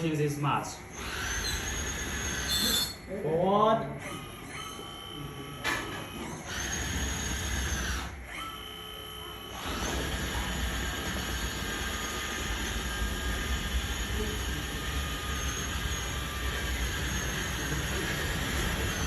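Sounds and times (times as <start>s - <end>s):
model bulldozer motor whine: 0.9s - 3.0s, 4.0s - 19.0s.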